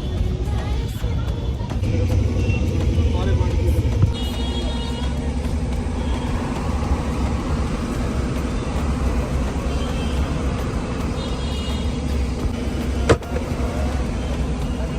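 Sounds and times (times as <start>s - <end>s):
car engine rumbling: 0.0s - 14.9s.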